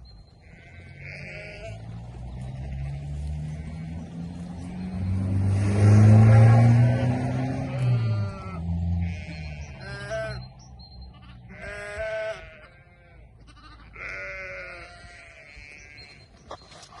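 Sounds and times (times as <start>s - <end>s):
sheep bleating: 0.4s - 5.0s, 6.1s - 16.3s.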